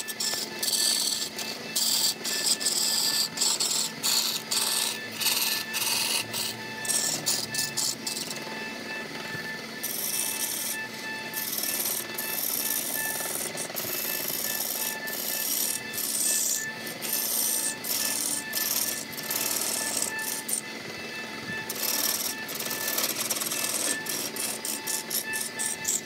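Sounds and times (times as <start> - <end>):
lathe gouge scraping wood: 0.0 - 8.6, 9.8 - 26.0.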